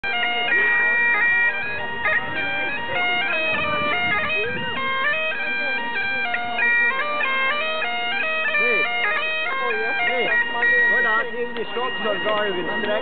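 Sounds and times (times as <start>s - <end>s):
bagpipe playing a tune: 0.0s - 13.0s.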